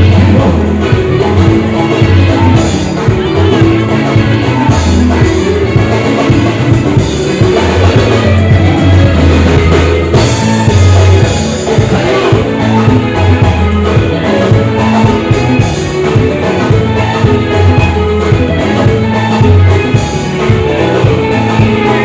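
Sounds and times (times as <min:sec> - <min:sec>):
drum kit: 0:00.0 - 0:22.0
guitar: 0:00.0 - 0:22.0
heavy bass line: 0:00.0 - 0:22.0.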